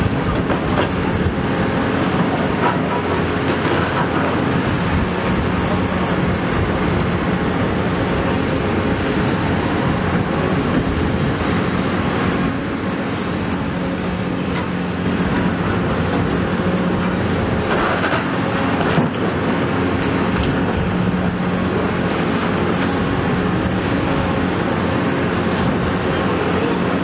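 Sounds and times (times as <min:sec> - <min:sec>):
excavator engine and hydraulics: 0:00.0 - 0:27.0.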